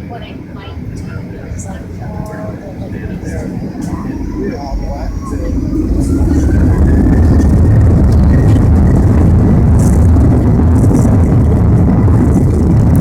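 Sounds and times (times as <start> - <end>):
faint jet engine whine: 0.0 - 13.0
jet engine rumble in cabin: 0.0 - 13.0.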